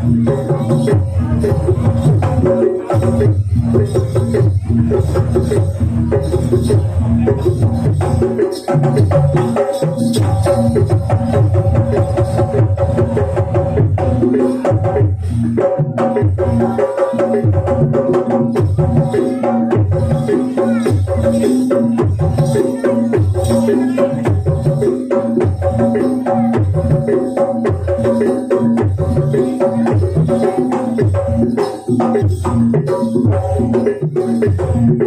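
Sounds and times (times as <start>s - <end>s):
gamelan music: 0.0s - 35.0s
hand drums beating: 0.0s - 35.0s.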